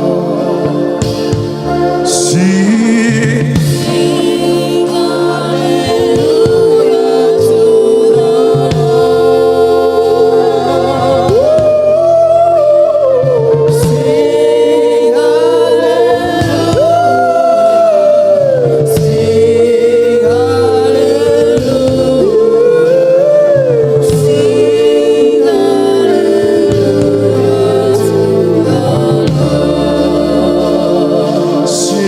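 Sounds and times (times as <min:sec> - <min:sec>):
keyboard chords: 0:00.0 - 0:32.0
lead voice singing long notes: 0:00.0 - 0:32.0
other voices singing: 0:00.0 - 0:32.0.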